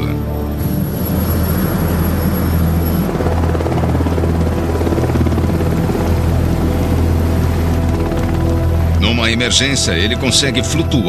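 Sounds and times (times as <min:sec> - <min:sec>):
helicopter rotor beating: 0:00.0 - 0:11.0
low engine drone: 0:00.0 - 0:11.0.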